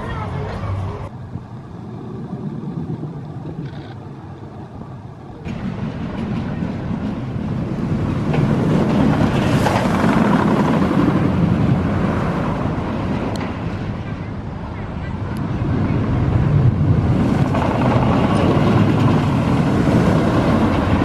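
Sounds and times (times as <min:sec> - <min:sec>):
roller coaster train rumbling: 0:00.0 - 0:21.0.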